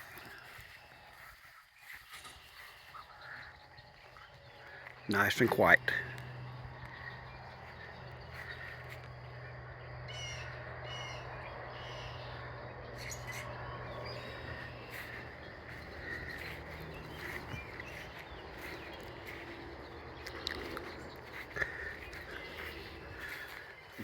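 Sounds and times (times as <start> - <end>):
birds calling: 0.0 - 24.0
steady low hum: 0.0 - 24.0.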